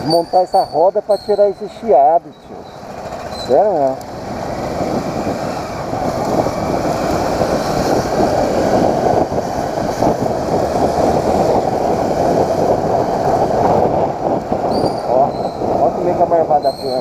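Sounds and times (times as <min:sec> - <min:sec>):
motorcycle engine: 0:00.0 - 0:17.0
wind rushing over microphone: 0:00.0 - 0:17.0.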